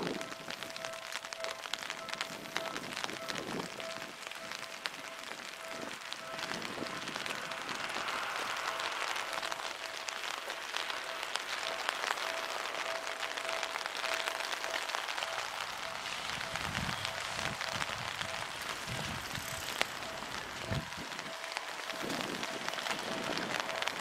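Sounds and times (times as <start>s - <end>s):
faint steady tone: 0.0s - 24.0s
rain drop ticks: 0.0s - 24.0s
rain falling: 0.0s - 24.0s.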